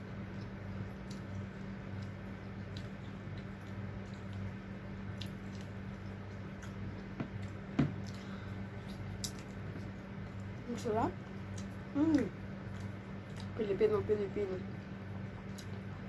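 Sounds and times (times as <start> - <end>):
chewing crispy food: 0.0 - 14.0, 14.6 - 16.0
low electrical hum: 0.0 - 16.0.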